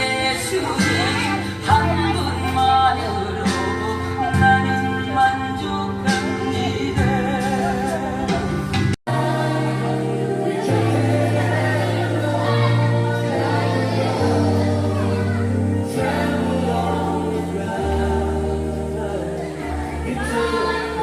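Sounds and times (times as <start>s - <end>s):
group singing a hymn: 0.0s - 21.0s
sustained bass accompaniment: 0.0s - 21.0s.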